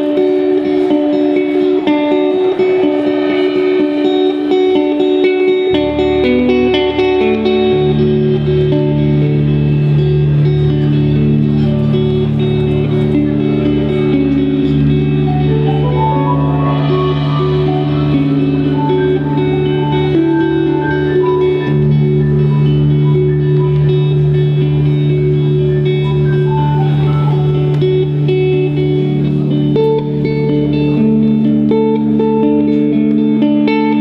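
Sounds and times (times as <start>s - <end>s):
electric guitars: 0.0s - 34.0s
live indie pop band: 0.0s - 34.0s.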